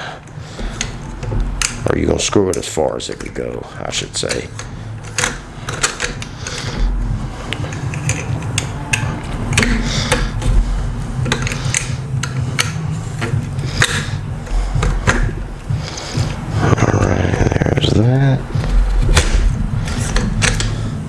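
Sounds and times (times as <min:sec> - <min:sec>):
metallic clicks and knocks: 0:00.2 - 0:16.5, 0:18.5 - 0:21.0.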